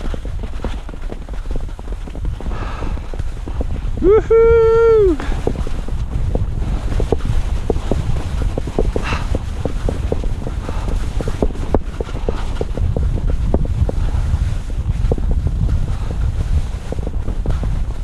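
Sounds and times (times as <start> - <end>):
skis scraping over snow: 0.0 - 18.0
wind buffeting microphone: 0.0 - 18.0.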